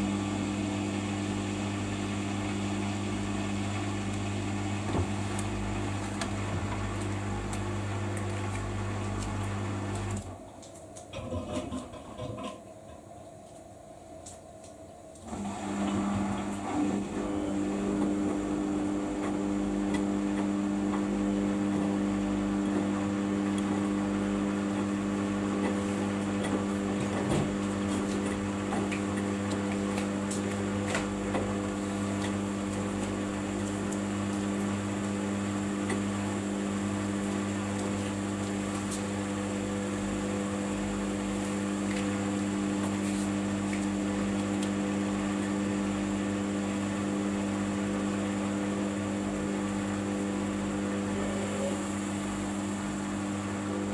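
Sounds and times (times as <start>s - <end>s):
washing machine humming: 0.0s - 53.9s.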